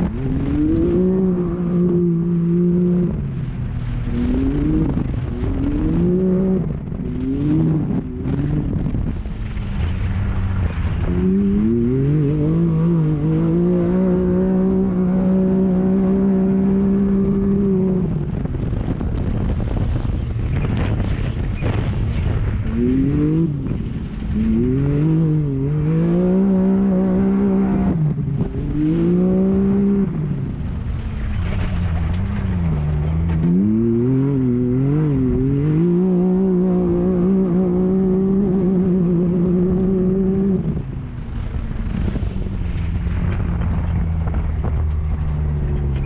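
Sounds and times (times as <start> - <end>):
low rumble over rough ground: 0.0 - 46.0
race vehicle engine revving: 0.0 - 46.0.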